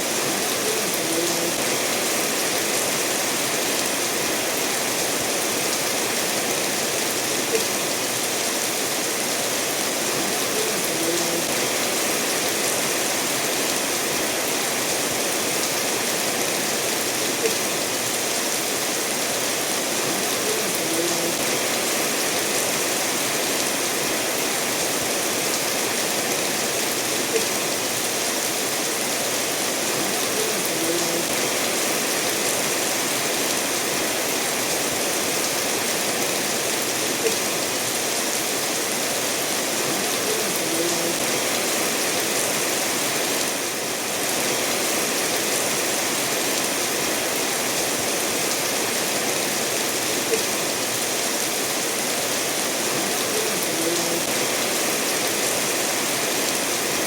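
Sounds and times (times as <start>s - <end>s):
steady rain: 0.0s - 57.0s
stream running over stones: 0.0s - 57.0s.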